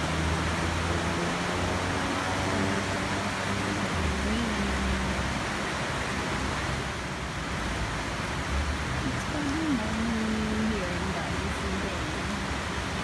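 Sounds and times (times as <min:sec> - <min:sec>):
passing traffic hum: 0:00.0 - 0:13.0
rain falling: 0:00.0 - 0:13.0.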